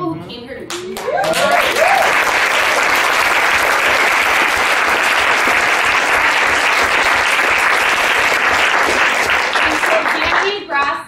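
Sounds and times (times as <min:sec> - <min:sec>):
crowd applauding: 0:00.7 - 0:10.8.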